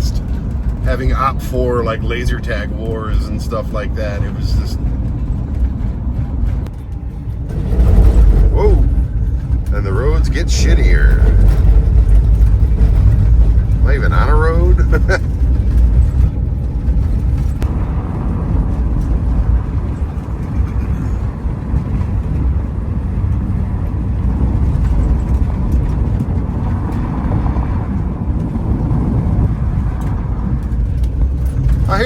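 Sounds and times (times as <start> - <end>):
van driving on rough road: 0.0 - 32.0.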